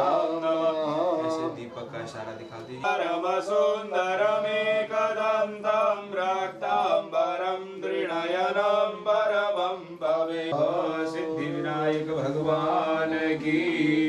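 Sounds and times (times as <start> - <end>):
priest chanting in sung voice: 0.0 - 14.0.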